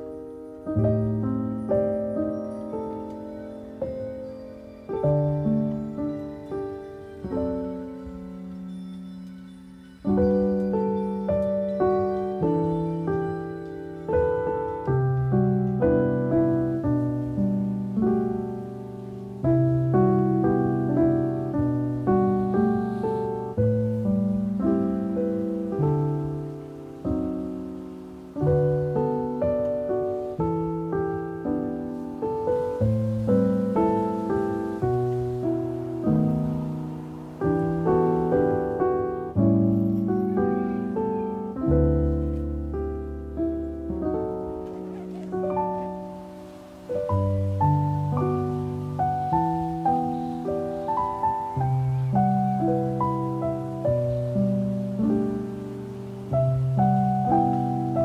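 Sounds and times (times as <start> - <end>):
soft piano music: 0.0 - 58.0.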